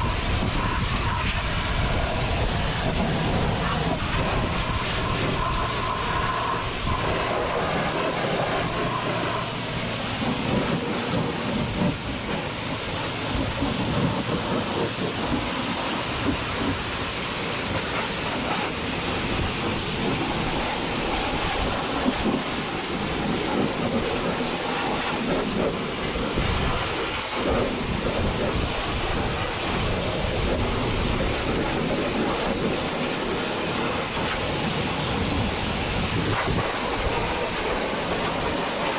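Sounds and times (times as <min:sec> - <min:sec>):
pressure washer jet hissing: 0:02.9 - 0:38.9.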